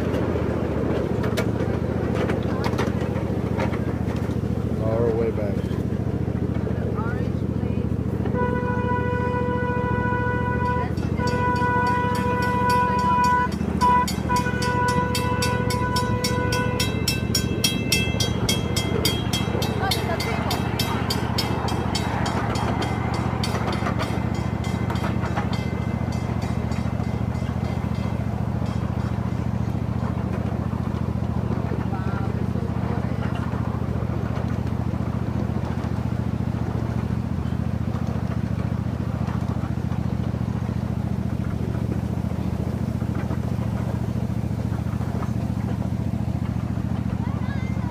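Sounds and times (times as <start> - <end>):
wheel clicks over rail joints: 0.0 - 8.4, 10.5 - 47.9
low engine hum: 0.0 - 47.9.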